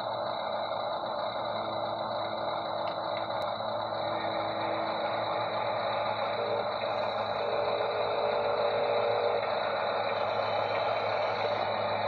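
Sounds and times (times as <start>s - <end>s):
high whine: 0.0s - 12.0s
toy electric motor whirring: 0.0s - 12.0s.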